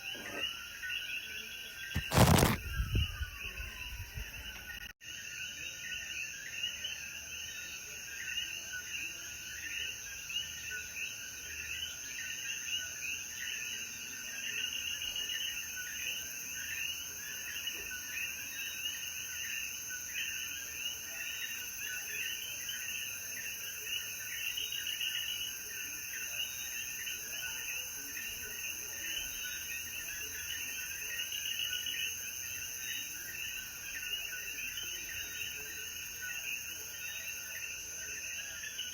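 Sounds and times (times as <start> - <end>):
frogs chorus: 0.0 - 38.9.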